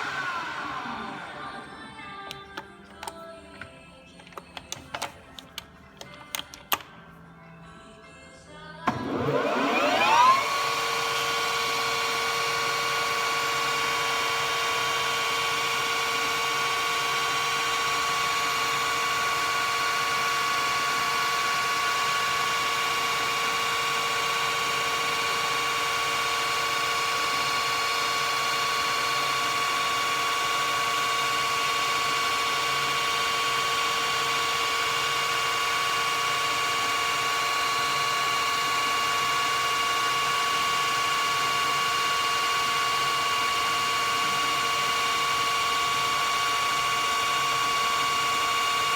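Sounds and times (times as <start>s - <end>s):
milling machine spindle whine: 0.0s - 3.7s, 8.9s - 48.9s.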